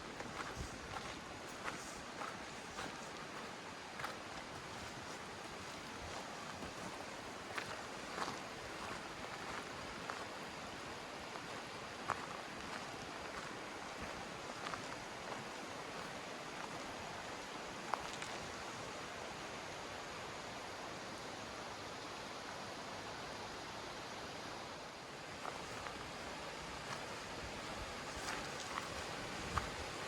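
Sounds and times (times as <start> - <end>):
river rushing: 0.0 - 30.0.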